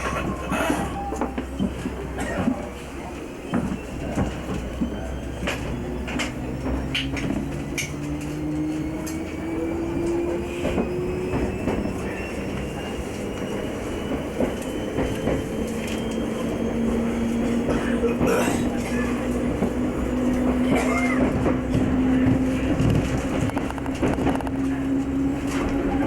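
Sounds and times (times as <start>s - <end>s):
train engine tone rising: 3.0s - 26.0s.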